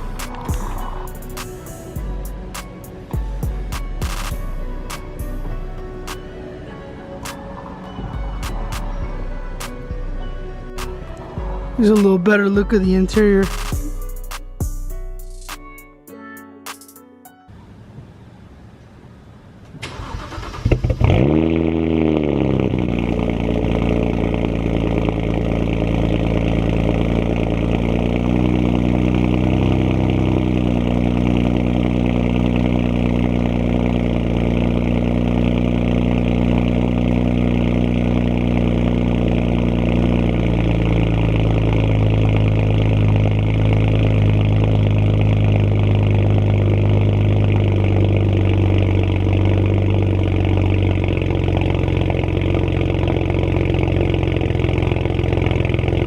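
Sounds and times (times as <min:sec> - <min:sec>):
car engine starting and idling: 0:00.0 - 0:15.8, 0:17.5 - 0:56.0.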